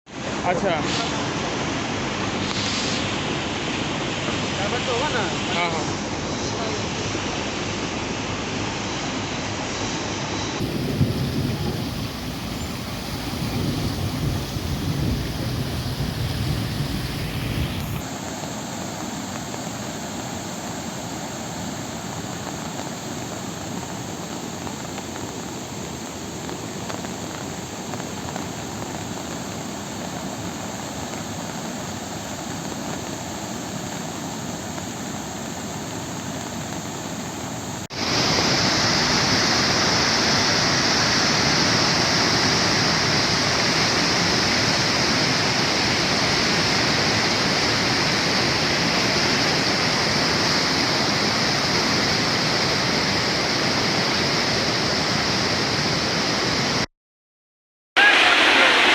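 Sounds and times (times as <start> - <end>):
floodwater roaring: 0.1 - 55.9, 58.0 - 58.9.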